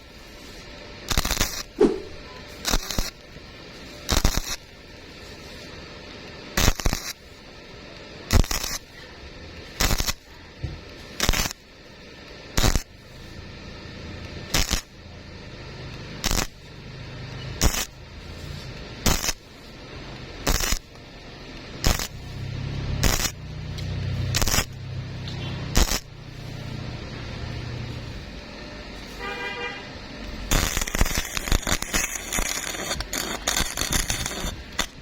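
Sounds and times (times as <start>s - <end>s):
welding arc crackling: 0.0s - 35.0s.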